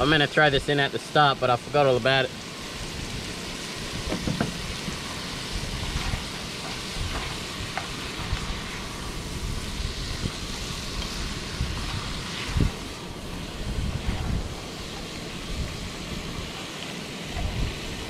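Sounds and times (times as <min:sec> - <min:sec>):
vegetables sizzling in a pot: 0:00.0 - 0:18.0.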